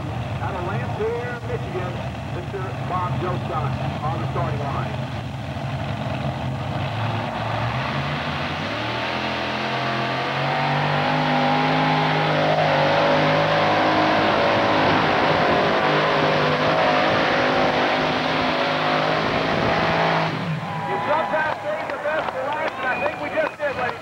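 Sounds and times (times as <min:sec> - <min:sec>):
tractor engines running hard: 0:00.0 - 0:24.0.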